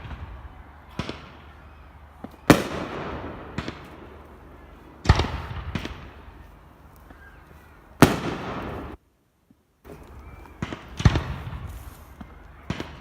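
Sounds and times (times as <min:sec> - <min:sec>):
fireworks bangs: 0:00.0 - 0:07.4, 0:08.0 - 0:09.0, 0:09.9 - 0:13.0.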